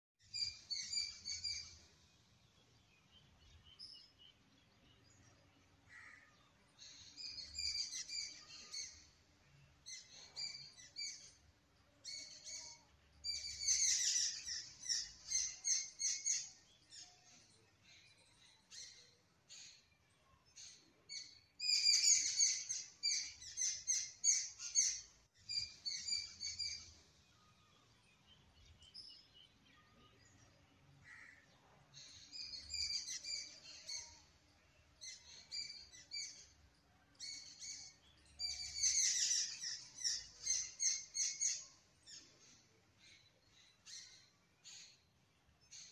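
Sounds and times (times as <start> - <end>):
birds chirping: 0.3 - 45.9.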